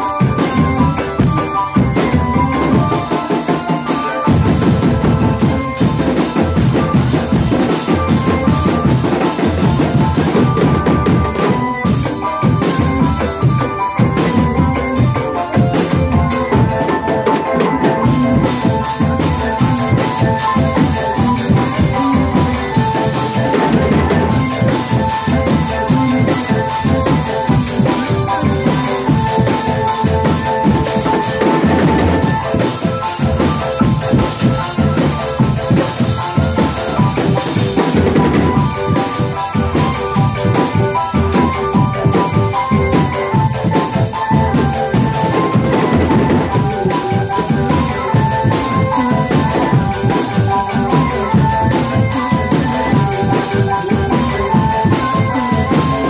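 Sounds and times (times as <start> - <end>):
bass and snare drums beat: 0.0 - 56.0
drum band playing dance music: 0.0 - 56.0
melody of held notes: 0.0 - 56.0.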